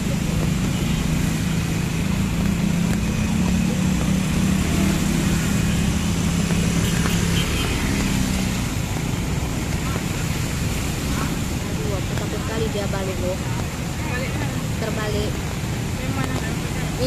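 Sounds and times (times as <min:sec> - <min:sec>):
heavy rain hissing: 0:00.0 - 0:17.0
motor scooter engines running: 0:00.0 - 0:17.0.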